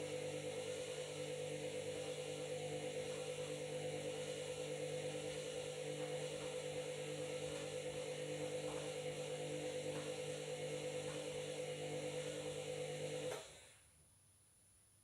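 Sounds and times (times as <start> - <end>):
washing machine motor hum: 0.0 - 13.5.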